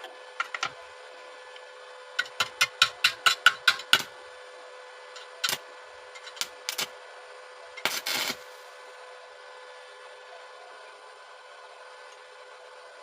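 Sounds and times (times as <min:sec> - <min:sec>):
steady hum with faint tone: 0:00.0 - 0:13.0.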